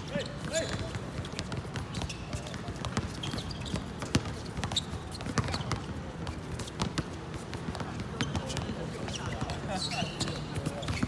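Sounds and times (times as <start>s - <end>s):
players' voices: 0.0s - 11.0s
sneakers squeaking: 0.0s - 11.0s
basketball bouncing: 0.3s - 11.0s.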